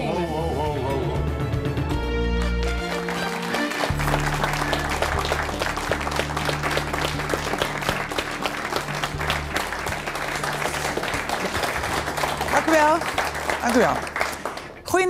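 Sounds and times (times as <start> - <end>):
studio audience applauding: 2.3 - 15.0.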